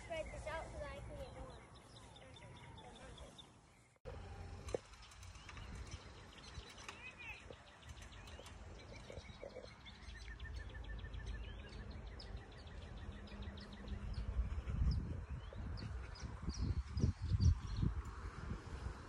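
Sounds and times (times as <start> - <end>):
birds chirping and calling: 0.0 - 4.0, 4.7 - 18.0.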